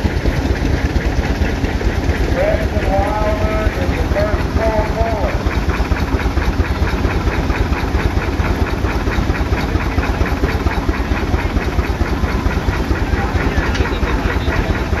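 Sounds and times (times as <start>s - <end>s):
exhaust chuffs: 0.0s - 15.0s
steam traction engine running: 0.0s - 15.0s.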